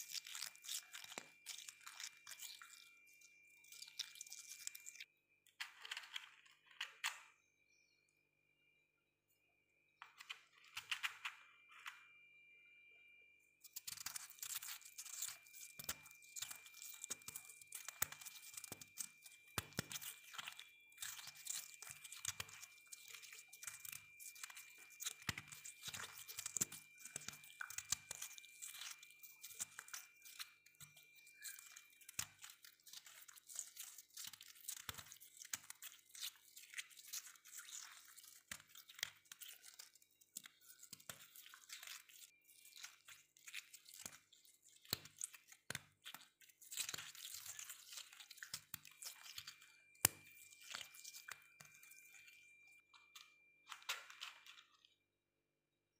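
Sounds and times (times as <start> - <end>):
freezer frost crunching: 0.0 - 5.1, 13.6 - 55.0.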